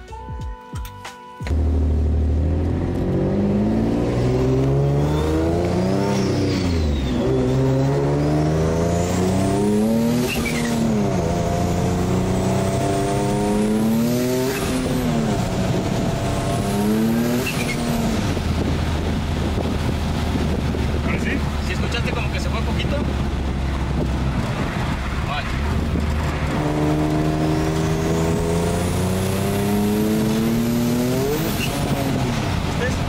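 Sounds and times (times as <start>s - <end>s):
car engine accelerating: 1.5s - 33.0s.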